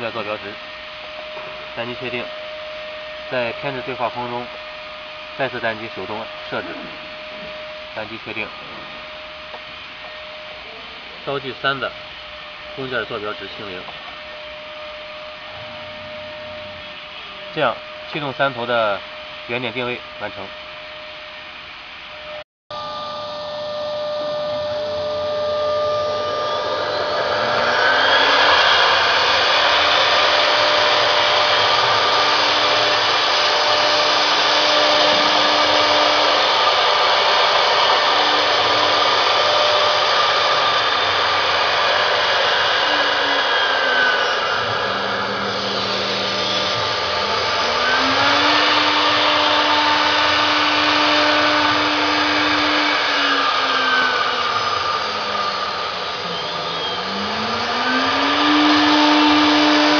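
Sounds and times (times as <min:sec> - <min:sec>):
motor tone changing pitch: 0:00.0 - 0:59.9
router spindles whirring: 0:00.0 - 0:59.9.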